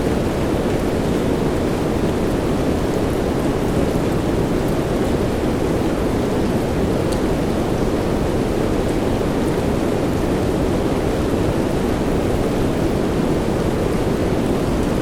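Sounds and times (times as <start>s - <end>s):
soft rain: 0.0s - 15.0s.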